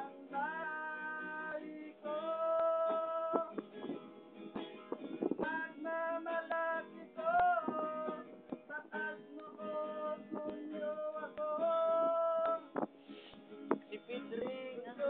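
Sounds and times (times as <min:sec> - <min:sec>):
man singing: 0:00.0 - 0:03.6, 0:05.4 - 0:12.8, 0:13.8 - 0:15.0
acoustic guitar: 0:00.0 - 0:15.0.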